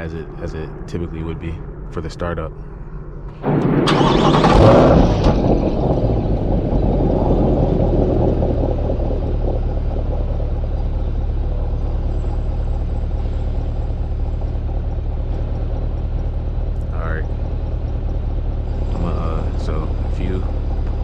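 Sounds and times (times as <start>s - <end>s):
car engine starting and idling: 3.3s - 21.0s.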